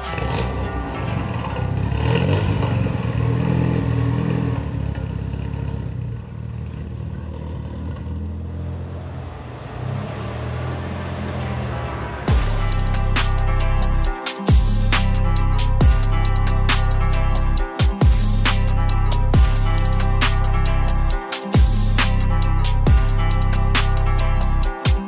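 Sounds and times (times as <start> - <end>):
car engine running: 0.0 - 24.9.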